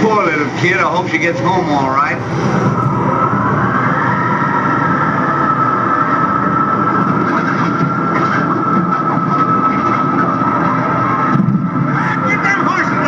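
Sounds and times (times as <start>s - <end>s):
storm wind roaring and whistling: 0.0s - 13.0s.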